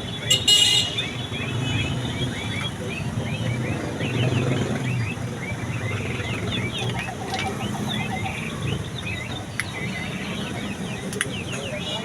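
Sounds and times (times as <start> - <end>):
electronic bird chirps and trills: 0.0 - 12.0.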